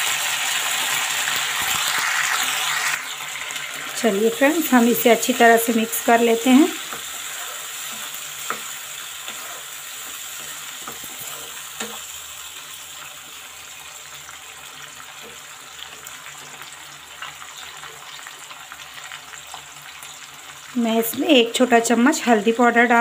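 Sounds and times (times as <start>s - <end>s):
tomatoes sizzling in oil: 0.0s - 23.0s.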